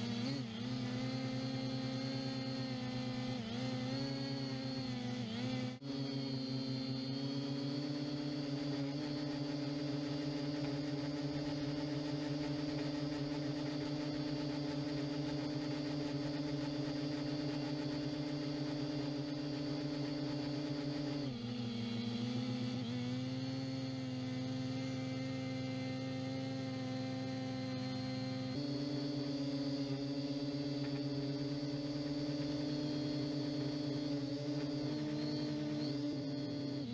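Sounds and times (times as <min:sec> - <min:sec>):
drone motors humming: 0:00.0 - 0:36.9.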